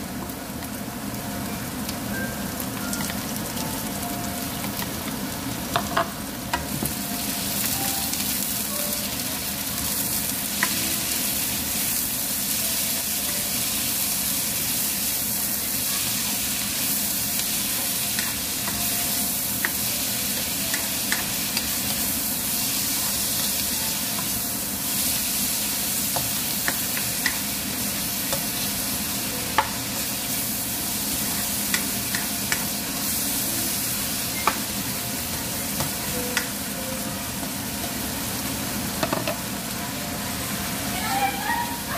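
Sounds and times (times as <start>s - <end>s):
food sizzling in hot oil: 0.0s - 41.9s.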